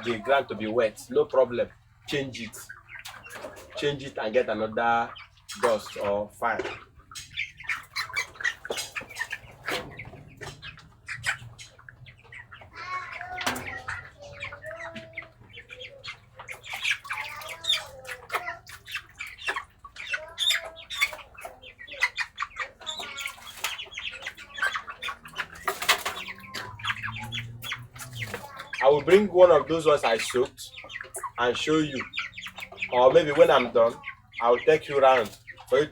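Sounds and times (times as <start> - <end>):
chickens squawking: 0.0 - 35.9
wing flapping and scuffling: 5.2 - 35.9.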